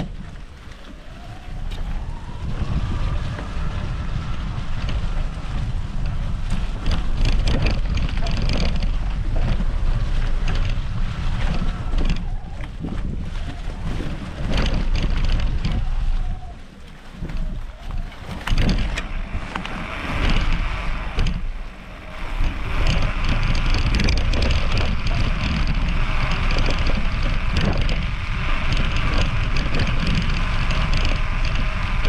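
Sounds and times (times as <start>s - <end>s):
bike tyres and frame rattling: 0.0s - 32.0s
wind buffeting microphone: 0.0s - 32.0s
electric motor whine: 0.3s - 16.6s, 17.7s - 32.0s.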